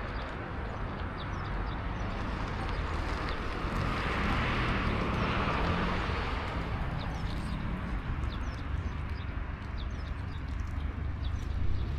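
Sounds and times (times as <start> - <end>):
small birds chirping: 0.0 - 3.5, 4.8 - 11.9
passing traffic rumble: 0.0 - 11.9.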